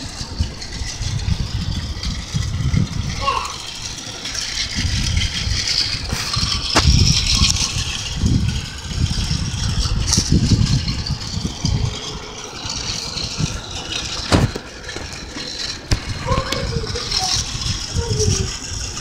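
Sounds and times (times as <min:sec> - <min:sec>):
toy train rattling: 0:00.0 - 0:19.0.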